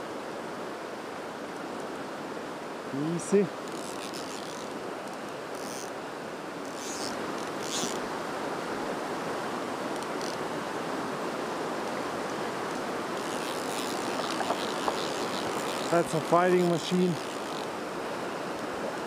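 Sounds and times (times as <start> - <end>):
river rushing over rapids: 0.0 - 19.0.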